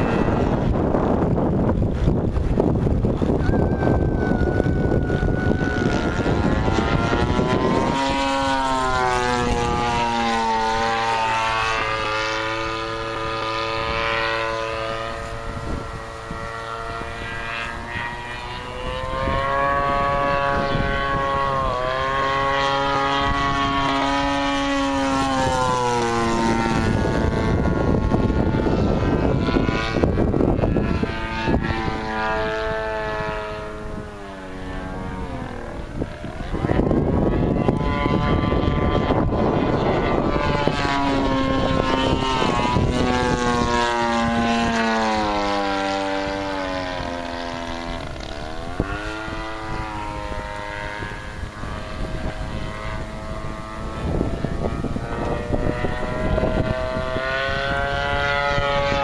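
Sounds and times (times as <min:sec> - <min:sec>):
model plane engine: 0:00.0 - 0:59.0
wind rumble on microphone: 0:00.0 - 0:59.0.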